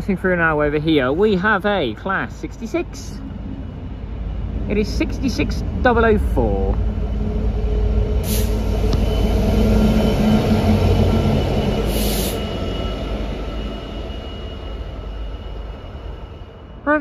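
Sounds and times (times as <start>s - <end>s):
diesel locomotive passing: 0.0s - 17.0s.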